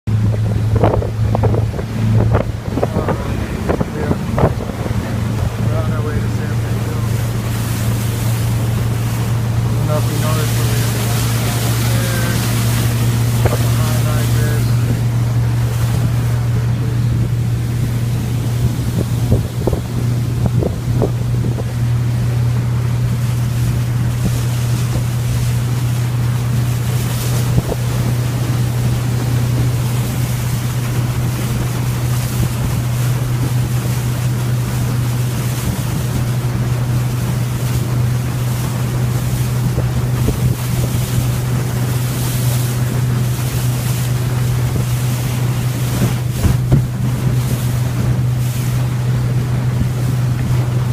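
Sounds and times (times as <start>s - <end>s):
motorboat engine droning: 0.0s - 50.9s
water rushing past hull: 0.0s - 50.9s
wind buffeting microphone: 0.1s - 50.9s.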